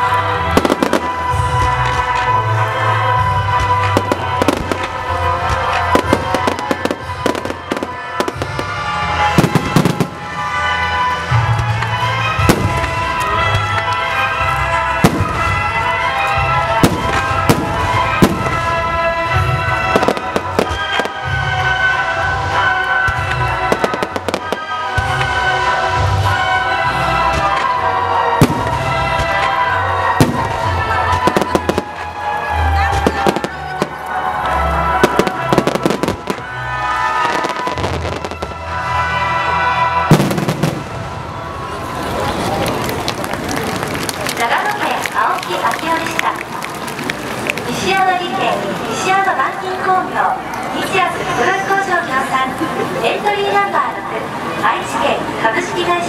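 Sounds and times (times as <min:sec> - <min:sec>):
music playing: 0:00.0 - 0:56.0.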